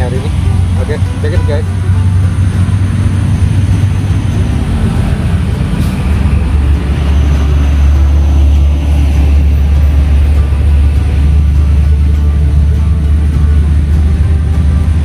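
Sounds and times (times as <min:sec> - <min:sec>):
heavy vehicle rumbling: 0:00.0 - 0:15.0.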